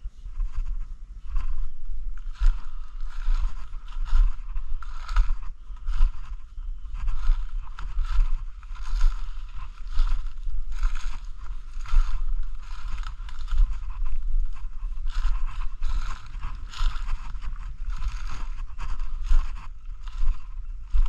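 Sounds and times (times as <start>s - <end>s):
footsteps crunching dry leaves: 0.4s - 21.0s.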